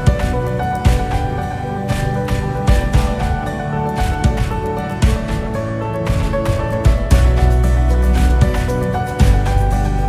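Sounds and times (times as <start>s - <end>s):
steady drum beat: 0.0s - 9.9s
music with sustained tones: 0.0s - 10.0s.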